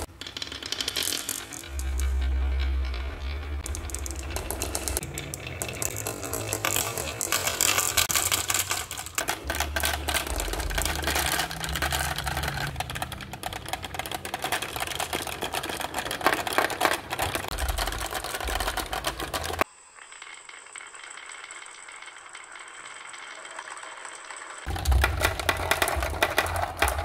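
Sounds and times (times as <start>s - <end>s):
marbles rattling down a chute: 0.0s - 27.0s.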